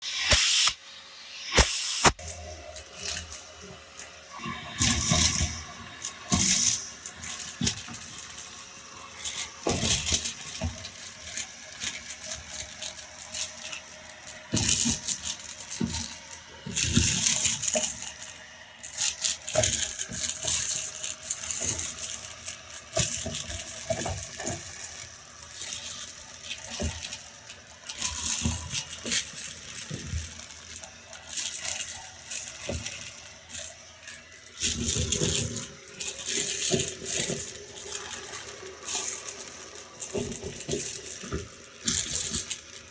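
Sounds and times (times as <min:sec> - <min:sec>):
vacuum cleaner: 0:00.0 - 0:42.9
beads clattering: 0:04.9 - 0:42.9.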